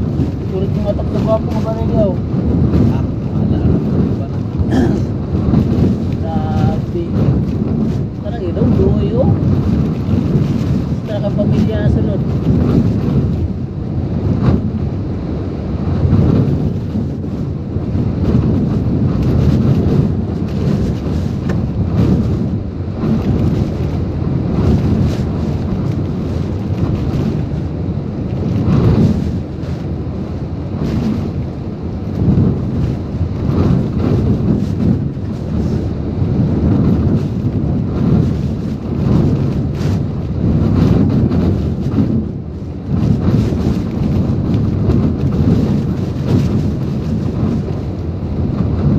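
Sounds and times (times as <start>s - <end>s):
strong wind gusting: 0.0s - 48.9s
wind buffeting microphone: 0.0s - 48.9s.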